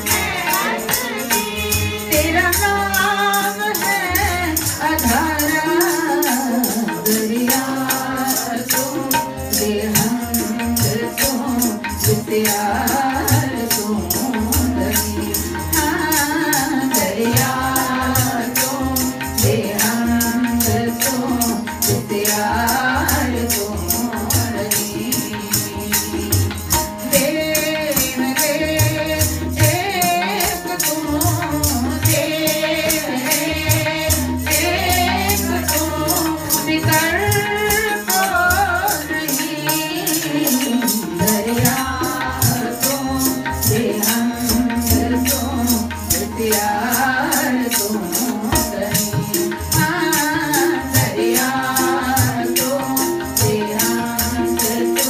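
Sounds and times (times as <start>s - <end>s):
hand percussion rattling beat: 0.0s - 55.0s
woman singing devotional song: 0.0s - 55.0s.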